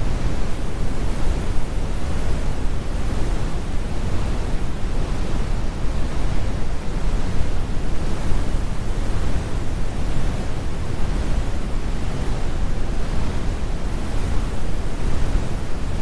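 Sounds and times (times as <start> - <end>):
brown noise rumble: 0.0 - 16.0.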